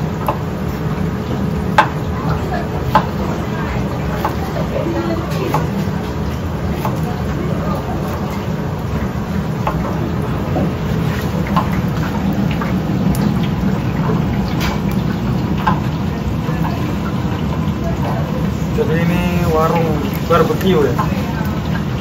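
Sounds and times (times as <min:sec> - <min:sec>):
clicks and knocks of kitchen work: 0:00.0 - 0:22.0
kitchen equipment humming: 0:00.0 - 0:22.0.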